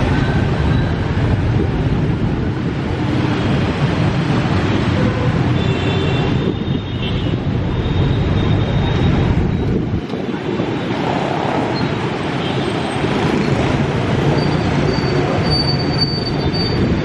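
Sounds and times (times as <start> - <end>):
deep traffic rumble: 0.0 - 17.0
motorbike engines: 0.0 - 17.0.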